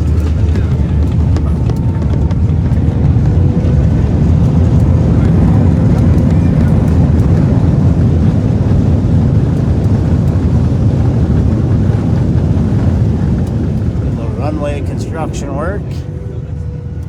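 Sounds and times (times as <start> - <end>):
airliner cabin low rumble: 0.0 - 17.0.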